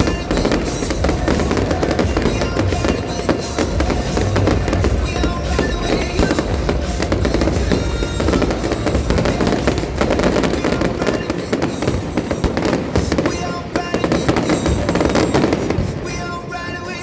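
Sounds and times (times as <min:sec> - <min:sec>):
fireworks bursting and crackling: 0:00.0 - 0:17.0
loud music: 0:00.0 - 0:17.0.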